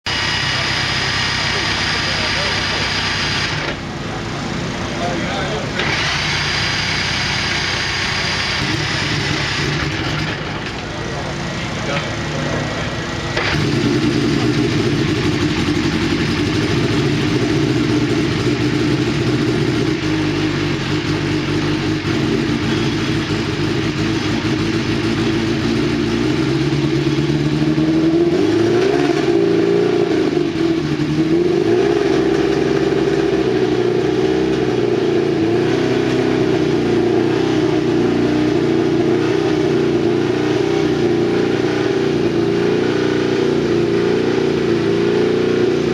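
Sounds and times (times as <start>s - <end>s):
race car engine running: 0.0s - 45.9s.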